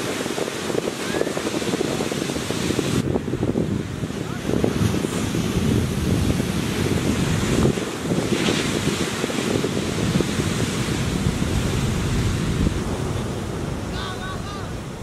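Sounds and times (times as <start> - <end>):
large surf breaking: 0.0 - 15.0
wind buffeting microphone: 0.0 - 15.0.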